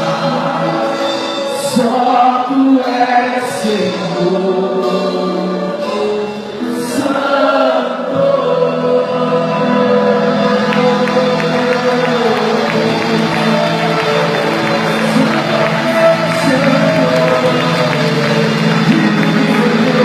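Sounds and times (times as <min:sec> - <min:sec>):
group of voices singing: 0:00.0 - 0:20.0
worship music backing: 0:00.0 - 0:20.0.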